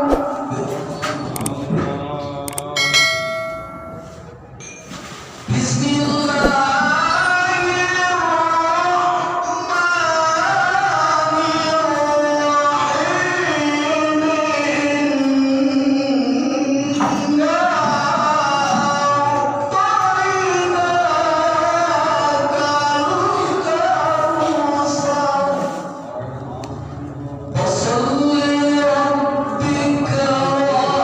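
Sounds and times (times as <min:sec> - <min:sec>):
man reciting melodically over loudspeaker: 0:00.0 - 0:03.6, 0:05.4 - 0:31.0.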